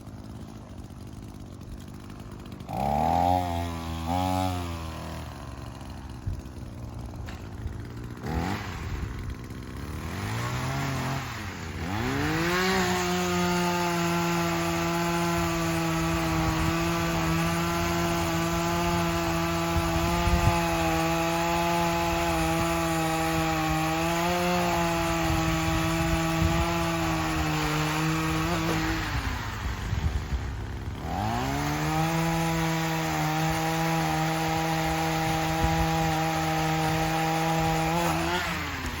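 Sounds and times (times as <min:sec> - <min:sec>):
chainsaw engine revving: 0:00.0 - 0:39.0.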